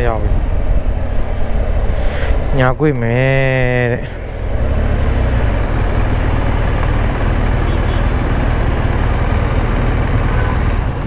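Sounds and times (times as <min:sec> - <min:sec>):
motorcycle engine rumbling: 0:00.0 - 0:11.0
wind and road noise: 0:00.0 - 0:11.0.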